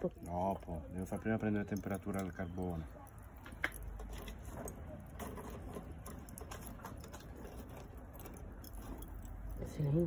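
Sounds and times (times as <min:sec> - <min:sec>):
charcoal crackling: 0:00.0 - 0:10.0.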